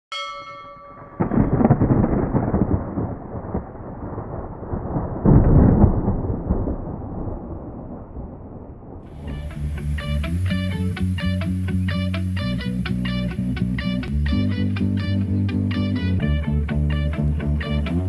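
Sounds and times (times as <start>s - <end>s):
deep rumbling booms: 1.1s - 17.6s.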